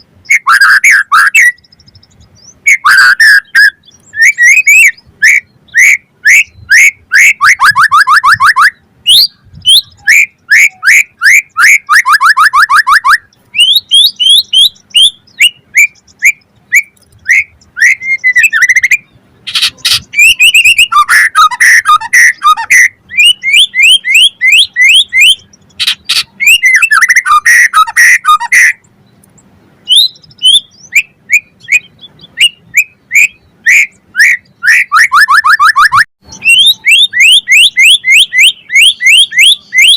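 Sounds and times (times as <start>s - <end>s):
songbird whistling and trilling: 0.0s - 28.9s, 29.8s - 39.9s.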